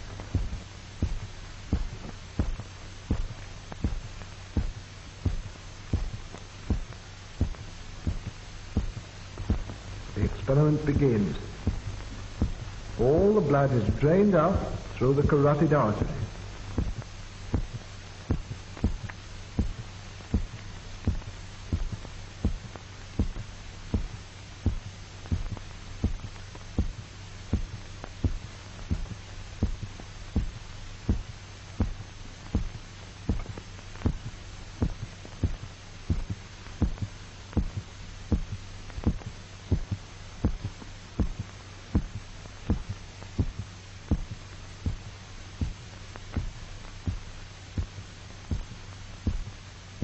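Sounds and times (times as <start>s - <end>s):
amplified heartbeat: 0.0s - 50.0s
steady low hum: 0.0s - 50.0s.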